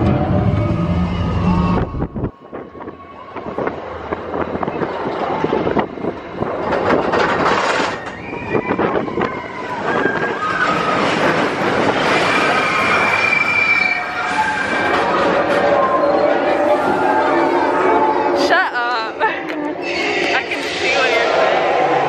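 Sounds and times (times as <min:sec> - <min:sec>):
high-pitched squeals: 0:00.0 - 0:03.9, 0:04.6 - 0:22.0
roller coaster rattling on track: 0:00.0 - 0:22.0.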